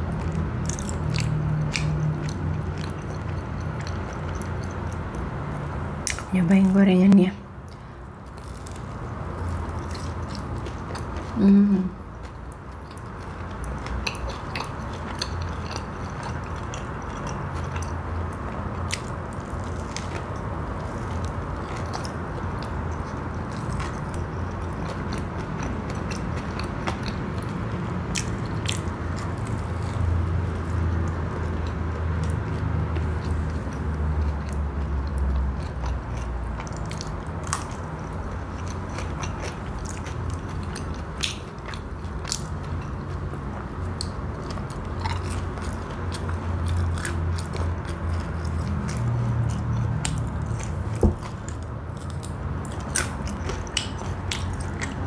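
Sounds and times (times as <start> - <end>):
chewing and crunching fried snack: 0.0 - 55.0.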